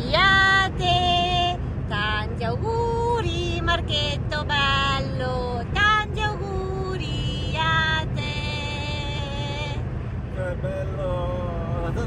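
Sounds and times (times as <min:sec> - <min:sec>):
car rumbling on road: 0:00.0 - 0:12.0.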